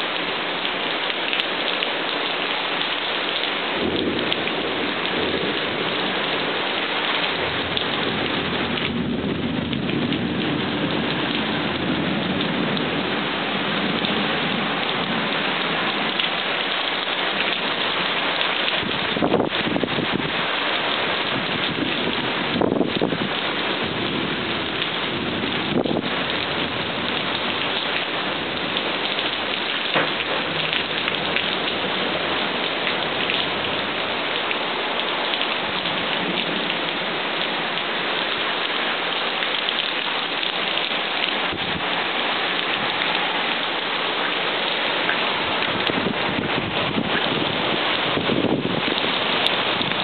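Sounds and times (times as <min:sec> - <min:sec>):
rain falling steadily: 0:00.0 - 0:50.0.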